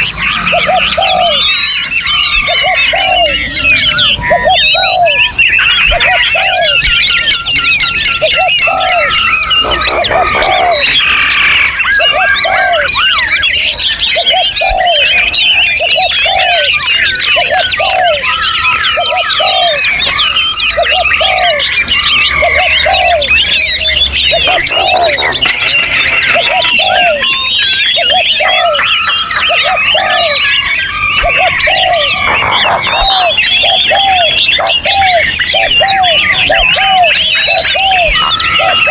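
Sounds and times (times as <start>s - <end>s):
low repeated bird note: 0.0s - 38.9s
songbirds chorus of chirps and trills: 0.0s - 38.9s.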